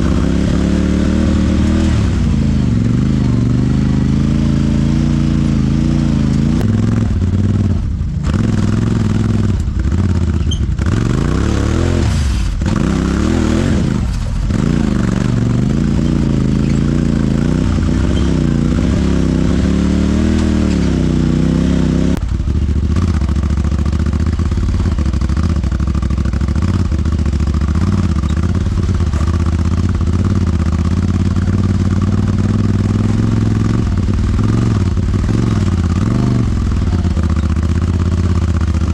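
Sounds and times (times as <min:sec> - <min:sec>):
side-by-side engine revving: 0:00.0 - 0:38.9.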